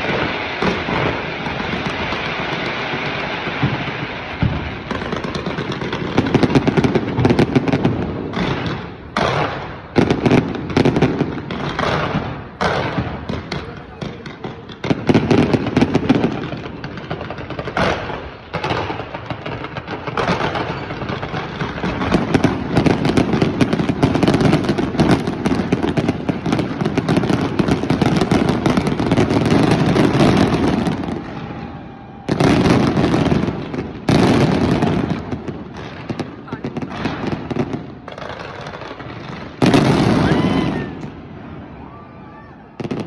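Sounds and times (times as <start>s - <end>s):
fireworks bangs and crackling: 0.0s - 43.0s.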